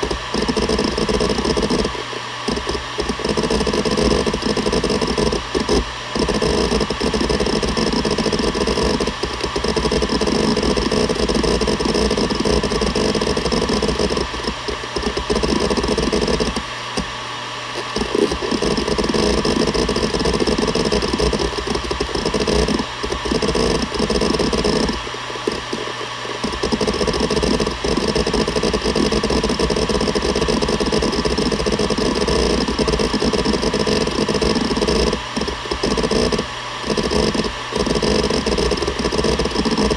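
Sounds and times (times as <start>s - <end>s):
hard drive seeking clatter: 0.0s - 39.9s
hard drive spindle hum: 0.0s - 39.9s.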